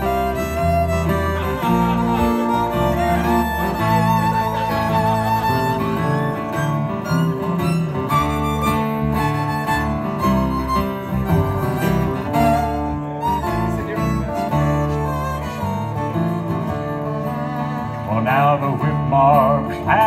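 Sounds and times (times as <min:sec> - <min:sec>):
acoustic guitars: 0:00.0 - 0:20.0
bass: 0:00.0 - 0:20.0
fiddle: 0:00.0 - 0:20.0.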